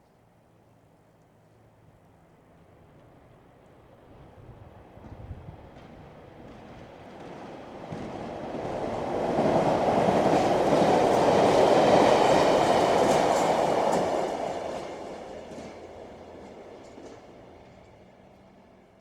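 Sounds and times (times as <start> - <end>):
faint train whine: 0.2 - 19.0
train rushing and rattling past: 3.2 - 19.0.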